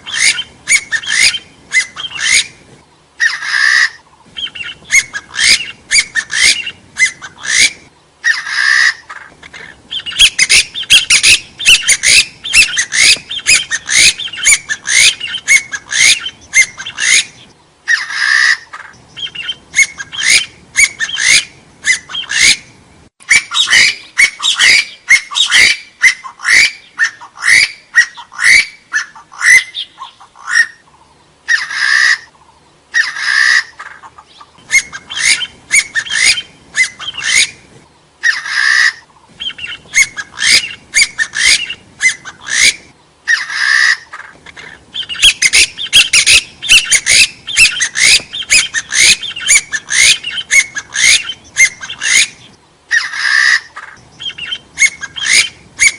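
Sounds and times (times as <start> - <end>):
partridge whistled calls: 0.0 - 55.9.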